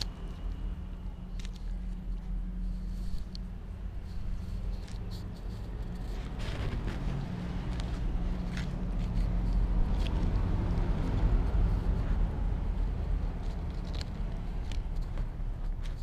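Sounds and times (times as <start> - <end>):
cat chewing and licking: 0.0 - 16.0
steady low rumble: 0.0 - 16.0.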